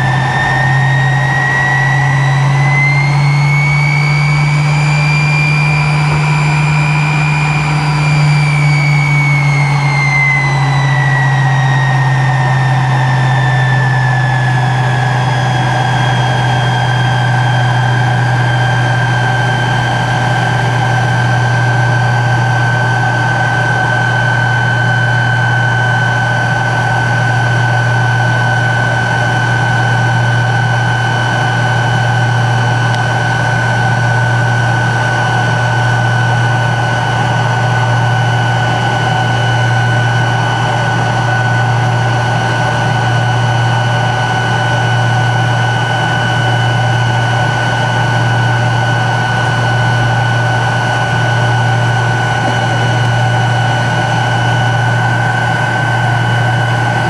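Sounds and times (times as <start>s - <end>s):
jet engine whine: 0.0s - 57.0s
low engine drone: 0.0s - 57.0s.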